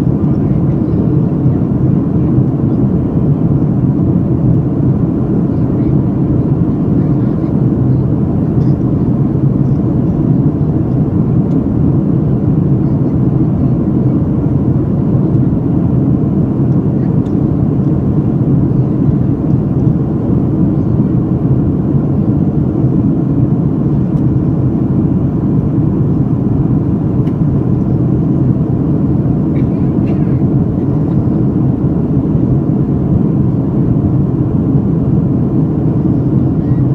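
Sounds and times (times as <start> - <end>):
aircraft roar in flight: 0.0 - 36.9.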